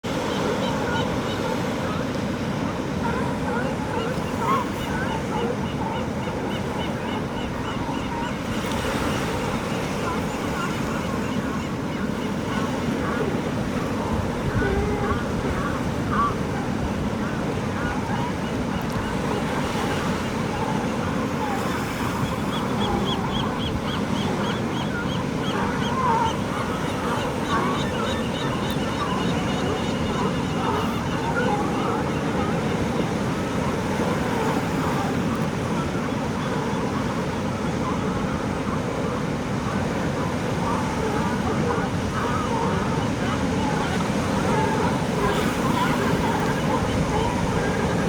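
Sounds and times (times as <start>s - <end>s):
birds calling: 0.1s - 48.0s
ocean surf washing: 0.1s - 48.0s
seabirds chirping: 0.1s - 48.0s.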